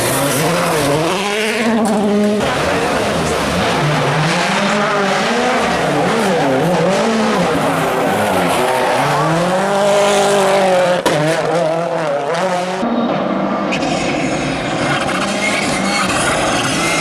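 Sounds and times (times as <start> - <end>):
rally car engine revving: 0.0 - 17.0
second rally car engine: 0.0 - 17.0.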